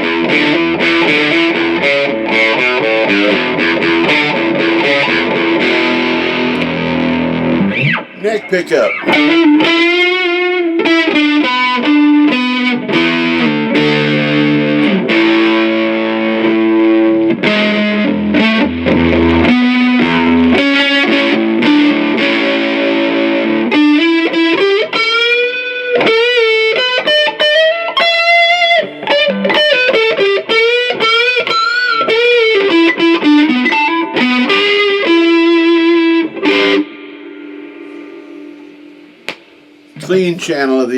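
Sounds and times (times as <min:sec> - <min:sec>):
distorted electric guitar: 0:00.0 - 0:40.6.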